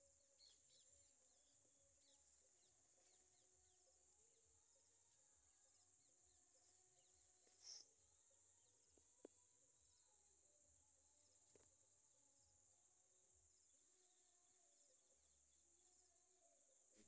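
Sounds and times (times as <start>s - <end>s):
faint insect chirring: 0.0s - 17.0s.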